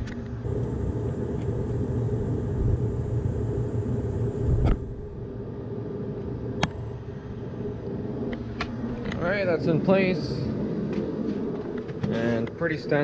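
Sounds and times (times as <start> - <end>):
background machinery rumble: 0.0 - 13.0.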